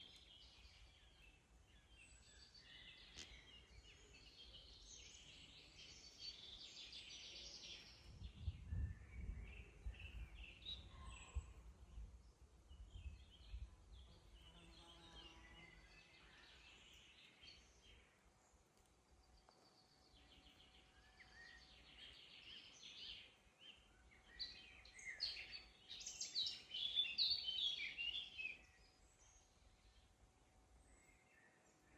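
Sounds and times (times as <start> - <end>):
songbirds singing: 0.0 - 31.9.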